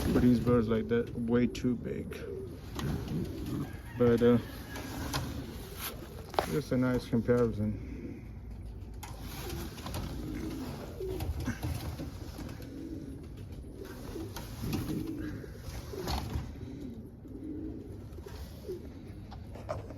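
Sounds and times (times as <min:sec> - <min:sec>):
pigeons cooing: 0:00.0 - 0:19.9.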